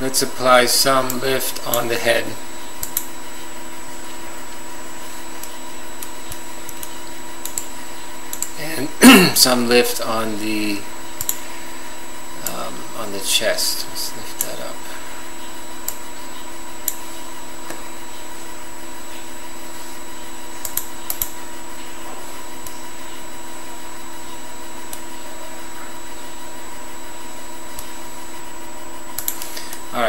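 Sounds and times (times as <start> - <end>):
computer cooling fan whirring: 0.0 - 30.0.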